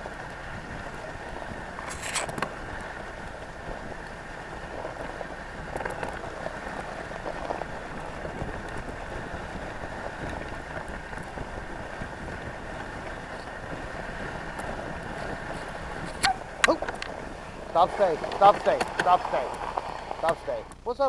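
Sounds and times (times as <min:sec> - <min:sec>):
sled runners swishing on snow: 0:00.0 - 0:20.9.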